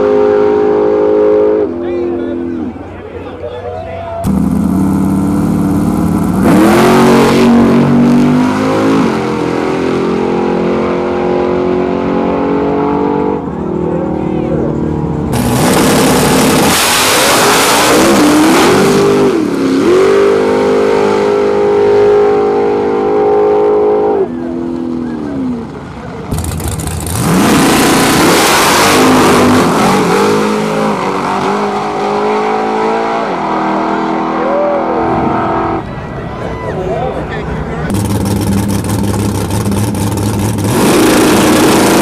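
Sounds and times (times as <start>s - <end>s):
drag race car engines revving: 4.2s - 42.0s.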